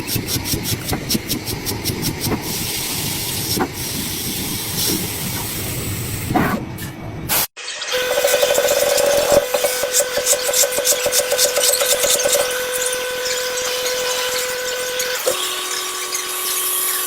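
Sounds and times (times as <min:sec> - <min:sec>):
machinery rumbling and hissing: 0:00.0 - 0:17.0.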